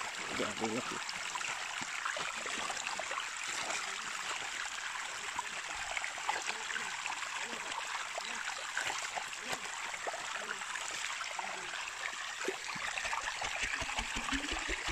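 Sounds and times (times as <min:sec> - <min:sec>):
creek water over rocks: 0:00.0 - 0:14.9
small water splashes: 0:00.0 - 0:14.9.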